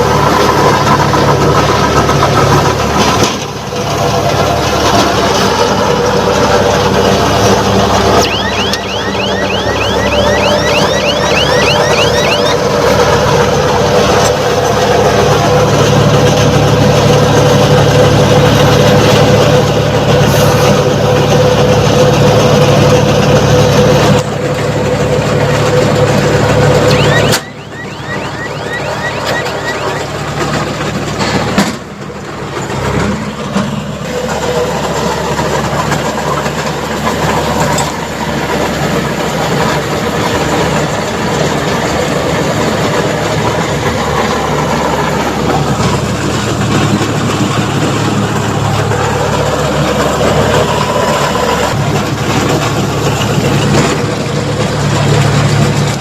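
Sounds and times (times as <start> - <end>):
tractor engine hum: 0.0 - 56.0.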